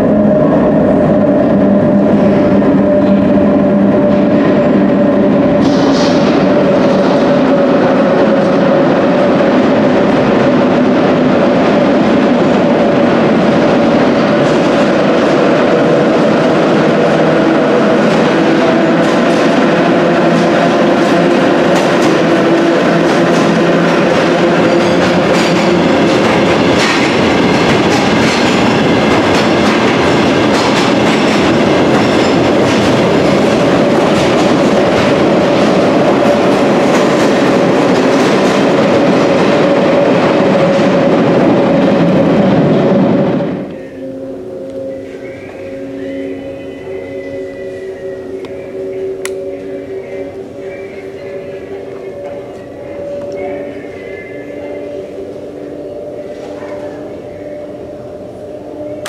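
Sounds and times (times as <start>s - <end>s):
electric locomotive hum: 0.0s - 59.0s
wheels rumbling on rail: 0.0s - 59.0s.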